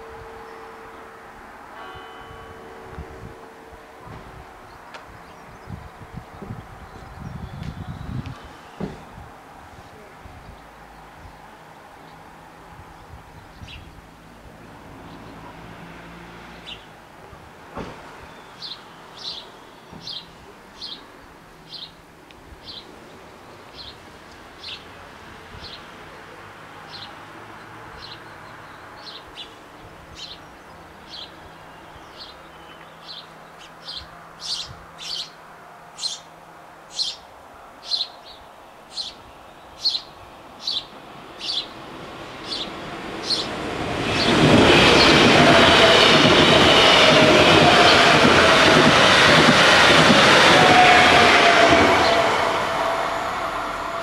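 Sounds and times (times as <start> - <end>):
approaching train rumble: 0.0 - 54.0.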